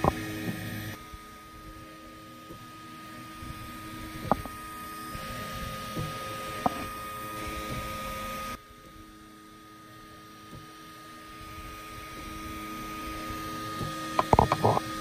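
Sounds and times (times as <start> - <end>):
printer fans and motors humming: 0.0 - 15.0.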